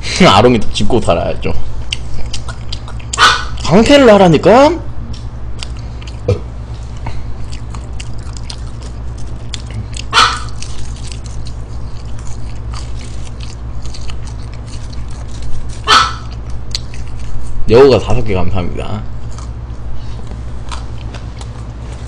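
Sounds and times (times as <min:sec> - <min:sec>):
munching french fries: 0:00.0 - 0:22.0
steady low hum: 0:00.0 - 0:22.0.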